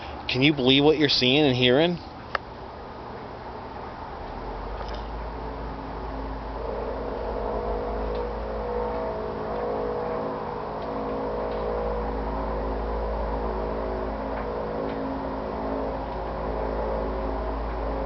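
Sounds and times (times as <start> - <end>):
droning hum with low rumble: 0.0 - 18.0.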